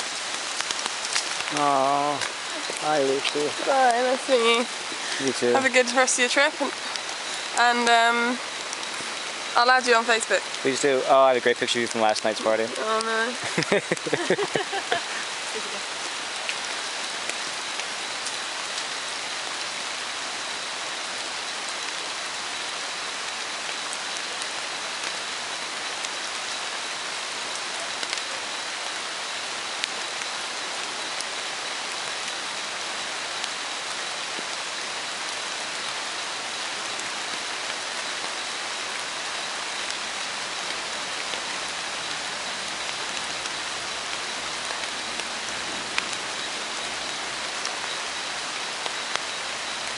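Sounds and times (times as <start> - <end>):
rain hiss on foliage: 0.0 - 49.9.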